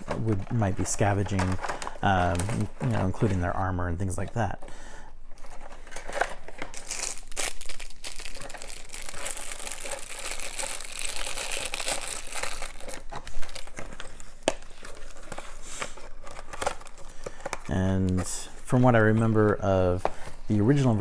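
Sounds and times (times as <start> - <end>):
plastic packaging crinkling: 0.0 - 4.6, 5.3 - 21.0.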